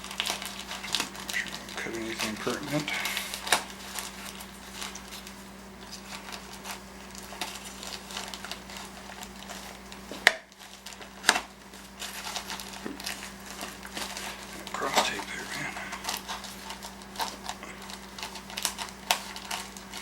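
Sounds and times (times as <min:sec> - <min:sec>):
faint steady hum: 0:00.0 - 0:20.0
scraping and rustling: 0:00.0 - 0:20.0.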